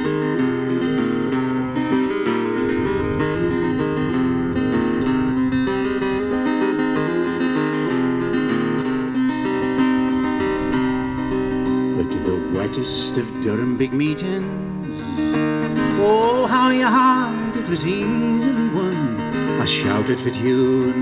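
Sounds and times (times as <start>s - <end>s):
acoustic guitar picking: 0.0s - 21.0s.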